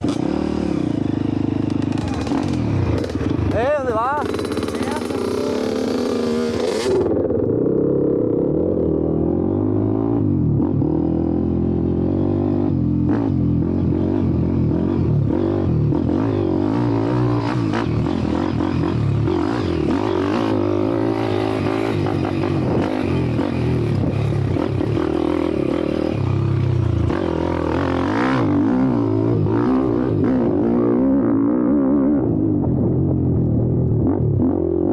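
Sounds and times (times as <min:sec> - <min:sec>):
pit bike engine revving: 0:00.0 - 0:32.0.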